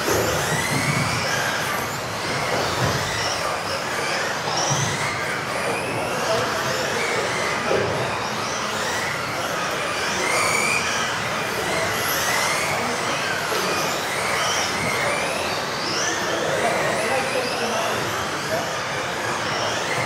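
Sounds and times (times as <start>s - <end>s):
rc car electric motors whining: 0.0s - 20.0s.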